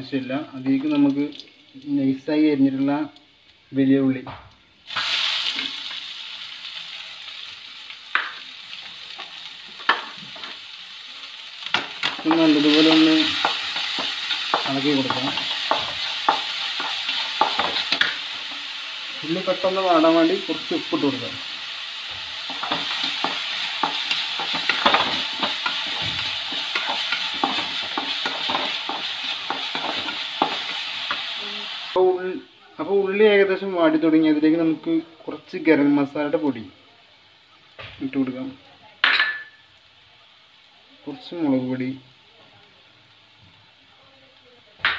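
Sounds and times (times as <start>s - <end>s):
onions sizzling in oil: 0.0s - 44.9s.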